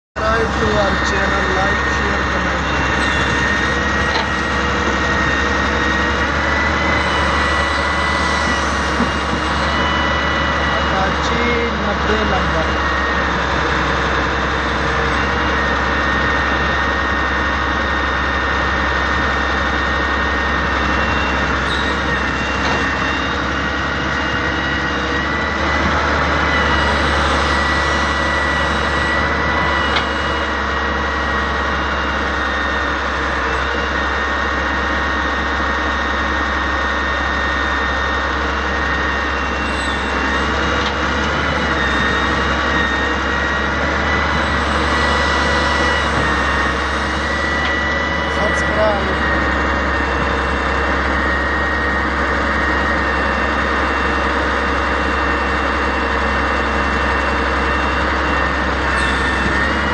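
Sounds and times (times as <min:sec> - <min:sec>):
excavator diesel engine running: 0:00.0 - 0:59.9
continuous high whine: 0:00.2 - 0:59.9.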